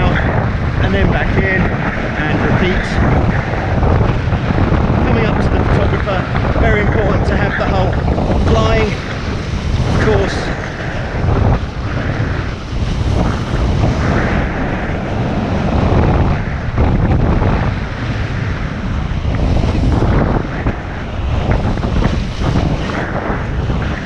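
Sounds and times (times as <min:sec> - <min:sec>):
water rushing past hulls: 0:00.0 - 0:24.0
wind buffeting microphone: 0:00.0 - 0:24.0.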